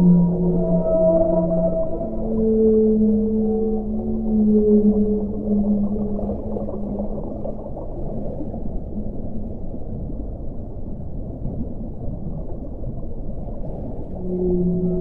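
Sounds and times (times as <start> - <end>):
muffled underwater ocean rumble: 0.0 - 15.0.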